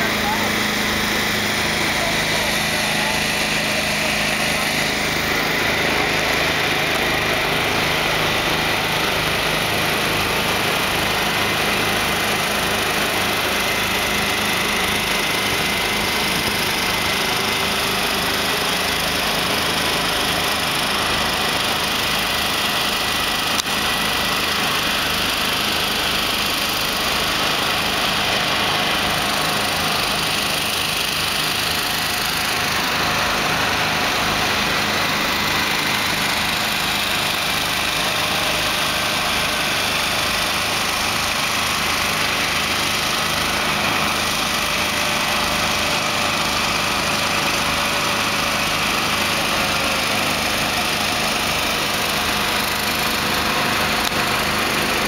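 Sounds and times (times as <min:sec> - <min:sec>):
truck diesel engines running: 0:00.0 - 0:55.0.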